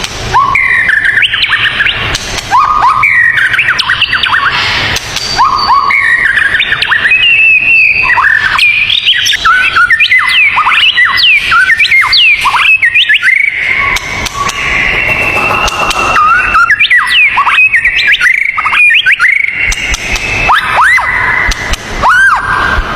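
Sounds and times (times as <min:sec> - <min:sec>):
songbirds singing: 0:00.4 - 0:21.8.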